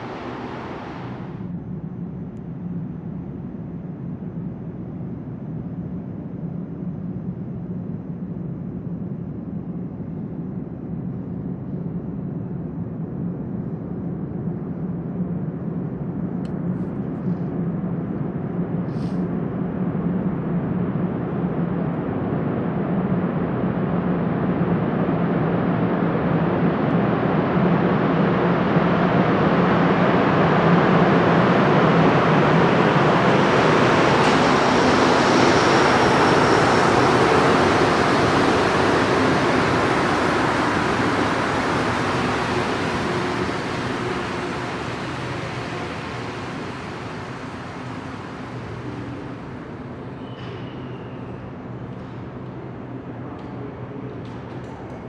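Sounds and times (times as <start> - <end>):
subway train rumbling in tunnel: 0.0 - 55.0.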